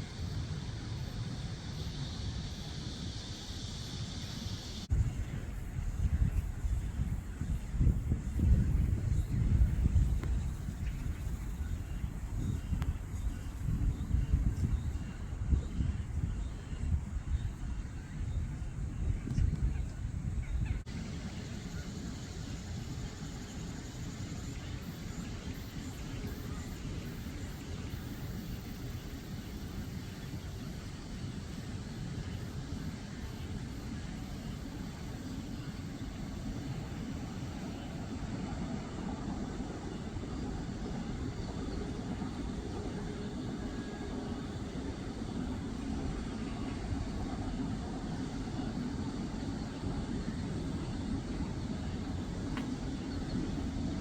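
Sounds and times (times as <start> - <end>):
low outdoor background rumble: 0.0 - 54.0.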